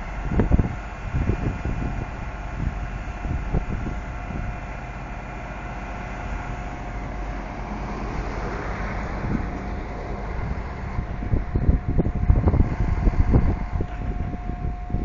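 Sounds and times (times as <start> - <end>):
heavy diesel engine running: 0.0 - 15.0
low wind thumps: 0.0 - 15.0.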